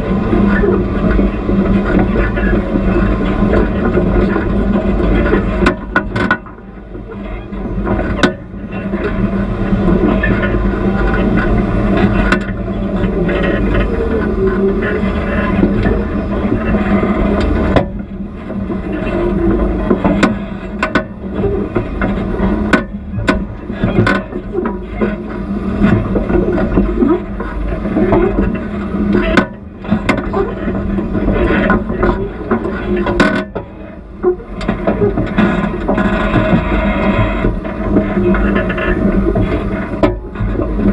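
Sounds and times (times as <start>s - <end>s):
off-road vehicle engine running low: 0.0s - 40.9s.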